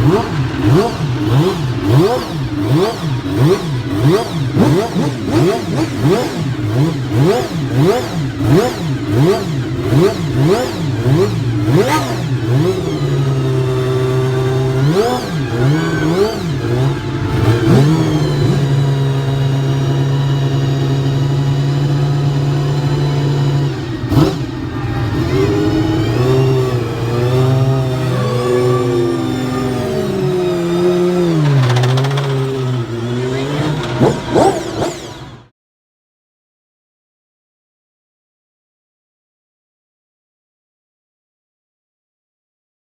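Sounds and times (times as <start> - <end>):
racing car engine revving: 0.0 - 35.5.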